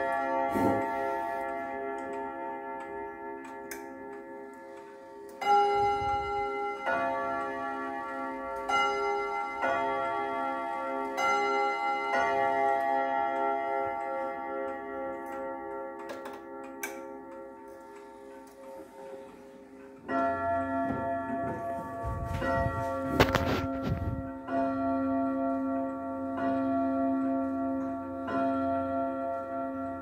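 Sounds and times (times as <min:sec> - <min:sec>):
wall clock striking gongs: 0:00.0 - 0:30.0.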